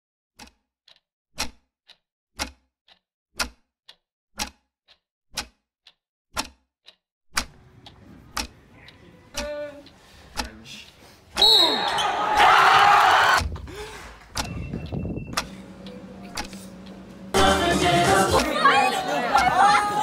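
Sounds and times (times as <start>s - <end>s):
clock ticking: 0.4s - 12.0s, 14.3s - 20.0s.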